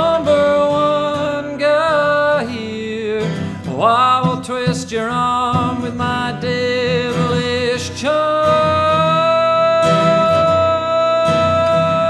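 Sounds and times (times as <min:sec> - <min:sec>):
acoustic guitar: 0:00.0 - 0:12.0
man singing long notes: 0:00.0 - 0:12.0.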